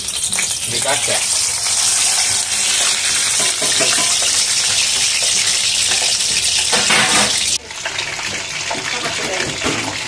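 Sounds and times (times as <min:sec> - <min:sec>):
fish deep-frying in sizzling oil: 0:00.0 - 0:10.0.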